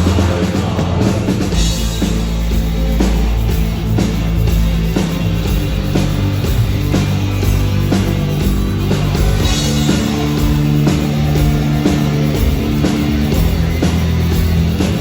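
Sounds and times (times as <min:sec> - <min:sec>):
guitars holding chords: 0:00.0 - 0:15.0
steady drum beat: 0:00.0 - 0:15.0.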